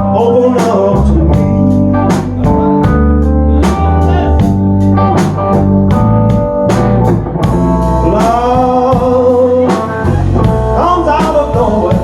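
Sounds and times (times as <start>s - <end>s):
blues band playing: 0.0s - 12.0s.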